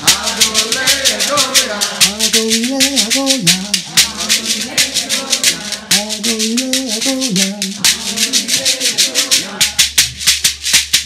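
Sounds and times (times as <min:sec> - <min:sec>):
man singing: 0:00.0 - 0:10.2
gourd rattle shaking: 0:00.0 - 0:11.0.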